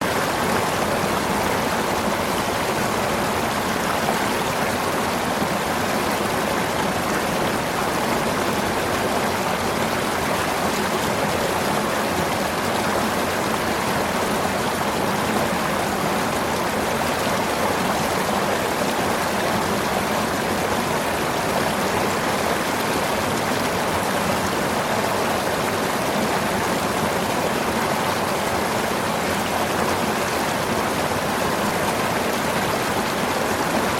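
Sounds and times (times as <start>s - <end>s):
river water flowing: 0.0s - 33.9s.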